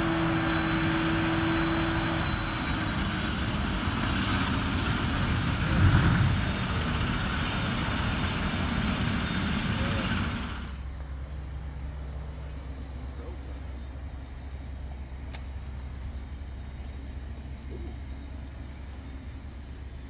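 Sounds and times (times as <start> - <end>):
engine rumble: 0.0 - 20.0.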